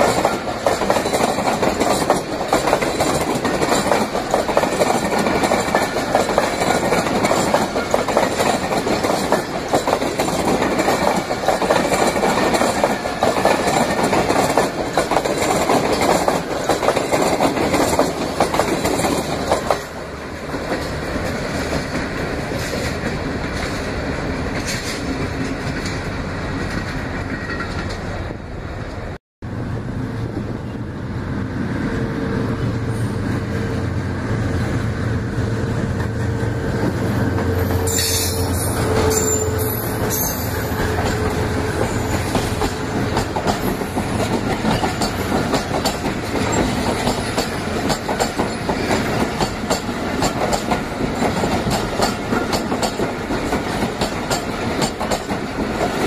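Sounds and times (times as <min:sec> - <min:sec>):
diesel locomotive engine hum: 0:00.0 - 0:56.0
train coaches rolling past: 0:00.0 - 0:56.0.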